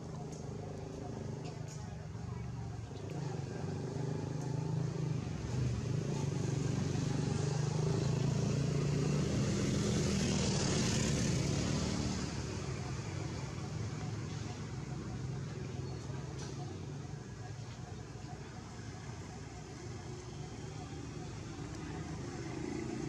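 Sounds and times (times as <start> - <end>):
vehicle passing: 0.0 - 23.0.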